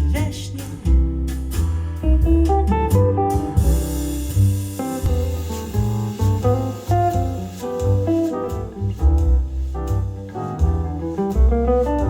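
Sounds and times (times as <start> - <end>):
jazzy instrumental music: 0.0 - 12.0
light drums: 0.0 - 12.0
plucked double bass: 0.0 - 12.0.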